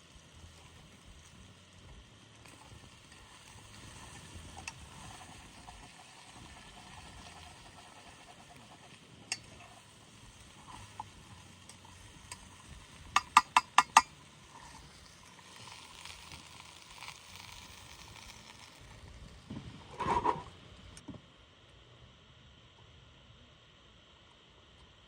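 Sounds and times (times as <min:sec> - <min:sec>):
faint sizzling hiss: 0:00.0 - 0:25.0.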